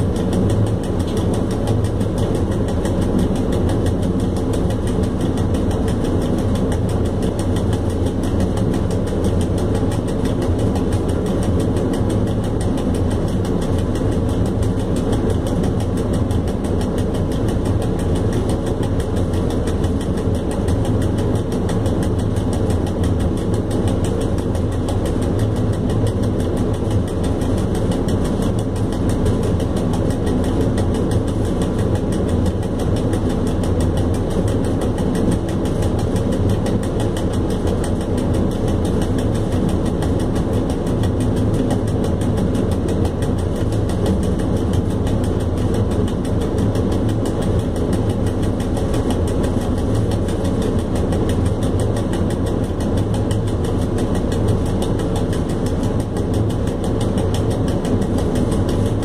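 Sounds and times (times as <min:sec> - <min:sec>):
locomotive motors and wheels rumbling: 0:00.0 - 0:59.0.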